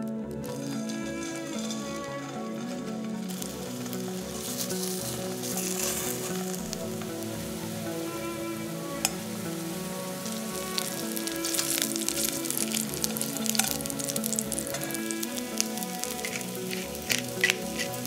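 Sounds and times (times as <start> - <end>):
beetroot frying in oil: 3.3 - 18.0.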